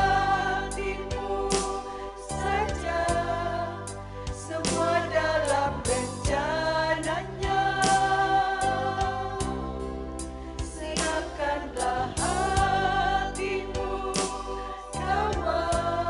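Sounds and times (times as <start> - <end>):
vocal group singing a hymn: 0.0 - 16.0.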